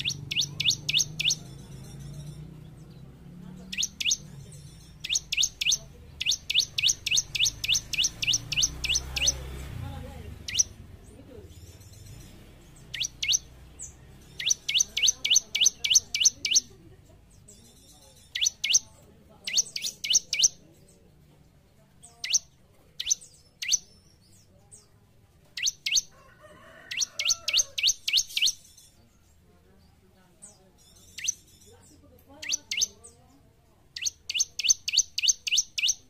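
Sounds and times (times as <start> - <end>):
bird singing high chirps: 0.0 - 9.5, 10.4 - 21.0, 22.0 - 25.0, 25.6 - 26.1, 26.8 - 29.4, 30.4 - 36.0.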